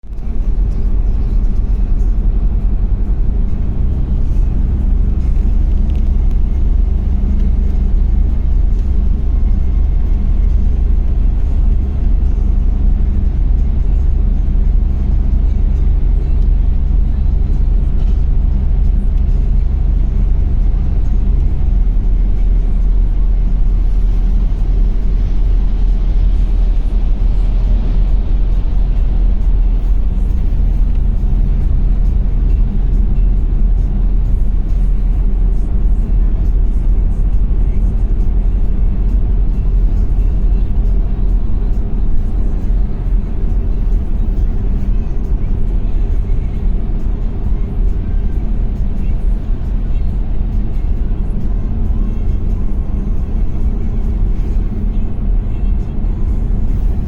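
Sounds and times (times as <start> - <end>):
low rumble of vehicle travelling: 0.0 - 57.0.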